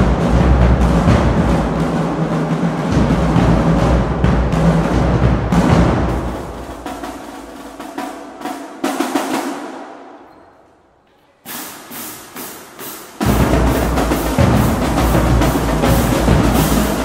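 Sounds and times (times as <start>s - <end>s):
marching drumline playing: 0.0s - 10.2s, 11.4s - 17.0s.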